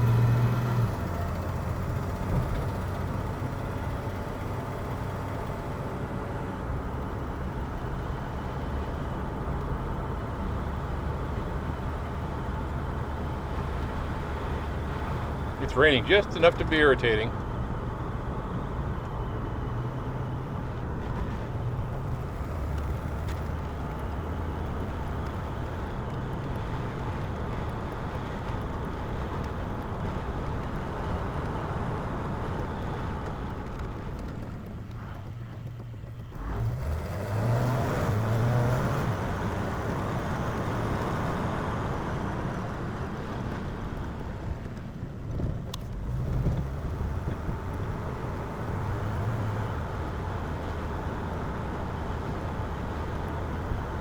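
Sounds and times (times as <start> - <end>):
car engine running: 0.0 - 54.0
road noise on wet road: 0.0 - 54.0.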